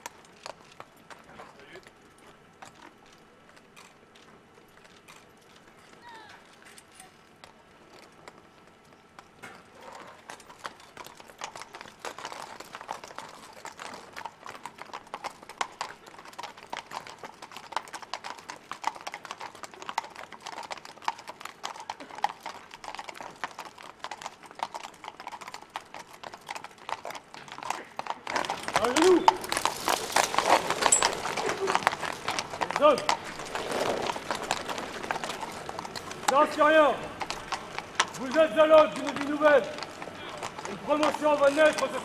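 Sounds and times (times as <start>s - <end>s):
horse hooves clip-clopping: 0.0s - 42.0s.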